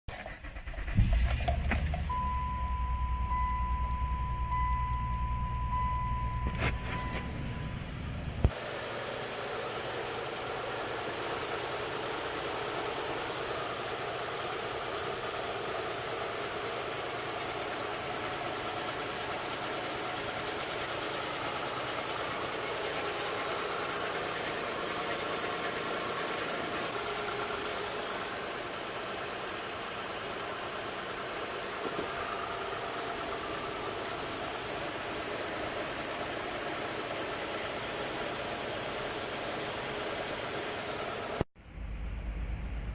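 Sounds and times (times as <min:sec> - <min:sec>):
car engine idling with misfire: 0:00.1 - 0:42.9.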